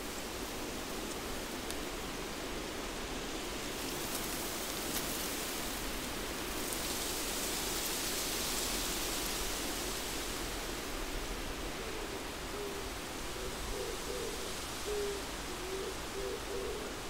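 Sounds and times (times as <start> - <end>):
wind rustling forest trees: 0.0 - 17.0.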